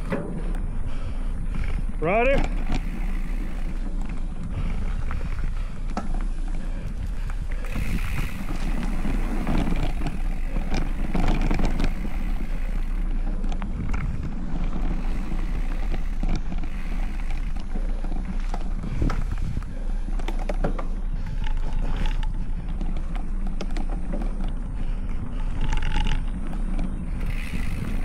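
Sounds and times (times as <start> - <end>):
bike clicking and rattling: 0.0 - 28.0
tyres rumbling on dirt: 0.0 - 28.0
wind on the microphone: 2.7 - 28.0.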